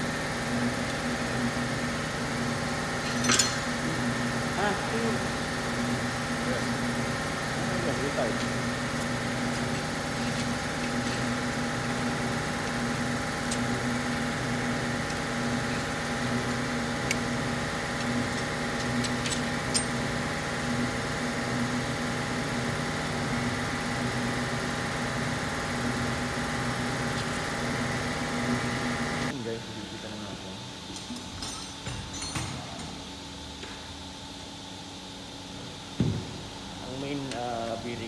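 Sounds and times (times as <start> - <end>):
motor hum: 0.0 - 31.3, 32.0 - 38.0.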